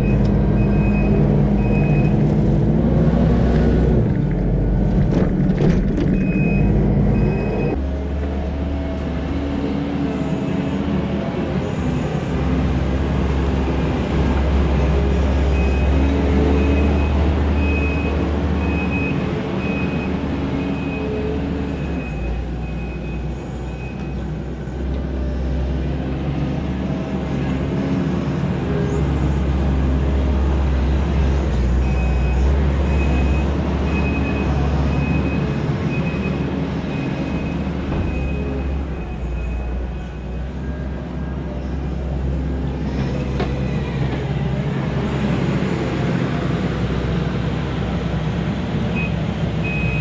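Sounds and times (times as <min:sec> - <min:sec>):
diesel engine running under load: 0:00.0 - 0:50.0.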